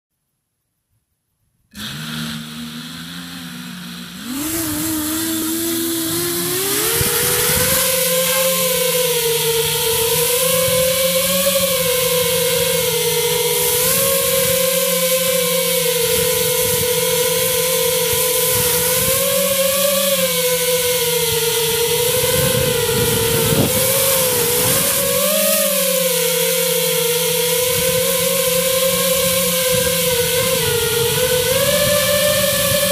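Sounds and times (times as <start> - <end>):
quadcopter motors whining: 1.7 - 32.9.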